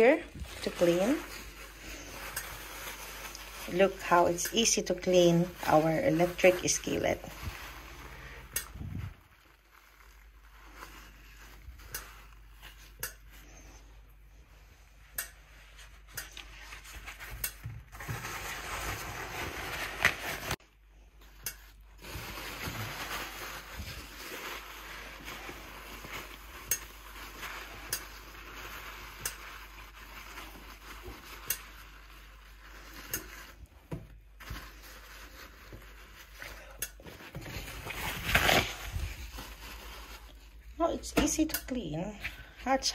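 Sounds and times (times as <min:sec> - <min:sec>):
tissue scrubbing metal skillet: 0:00.0 - 0:13.9, 0:21.4 - 0:42.9.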